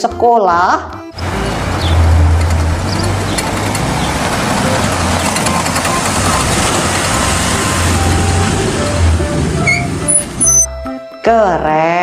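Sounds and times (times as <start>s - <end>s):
bus engine humming: 1.2s - 11.0s.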